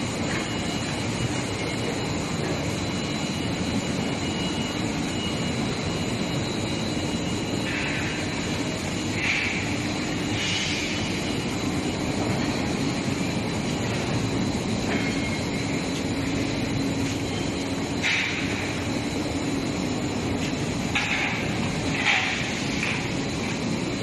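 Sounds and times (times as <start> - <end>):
high constant whine: 0.0 - 24.0
machinery hum: 0.0 - 24.0.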